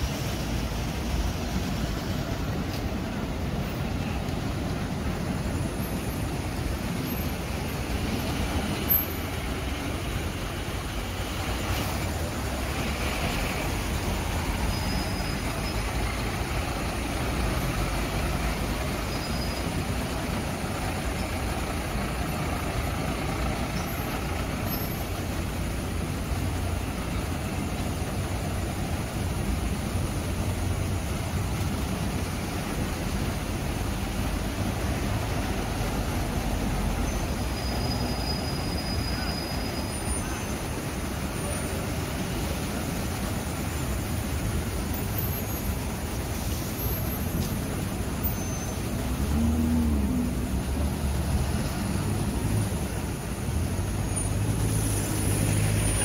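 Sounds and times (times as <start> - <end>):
cars and vans driving past: 0.0 - 56.0
fire engine diesel engine passing: 0.0 - 56.0.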